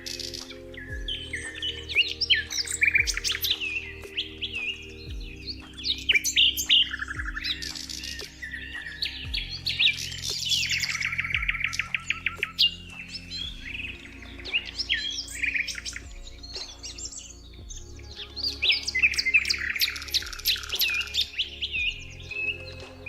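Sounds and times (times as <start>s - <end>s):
soft musical drone: 0.0s - 23.0s
songbirds singing and chirping: 0.0s - 23.0s.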